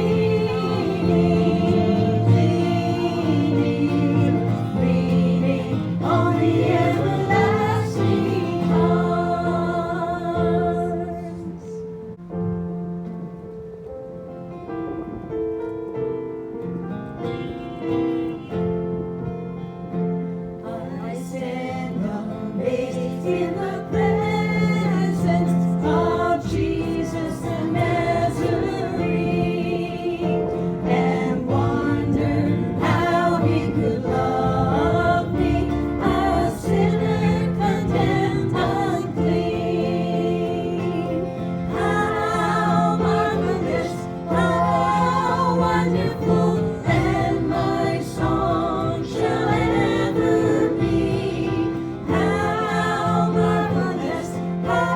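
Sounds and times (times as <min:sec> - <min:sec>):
voices singing a hymn: 0:00.0 - 0:12.7, 0:16.5 - 0:54.9
piano playing a hymn: 0:00.0 - 0:54.9.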